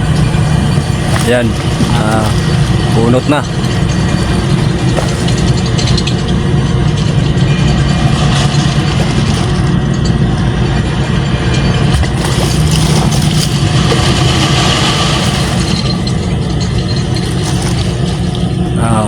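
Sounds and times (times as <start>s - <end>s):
machine engine humming: 0.0s - 19.0s.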